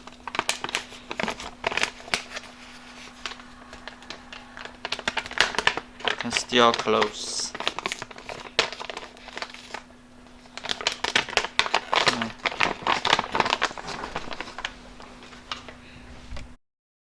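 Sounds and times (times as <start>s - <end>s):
plastic pouch crinkling: 0.0s - 15.8s
faint steady hum: 0.0s - 16.6s.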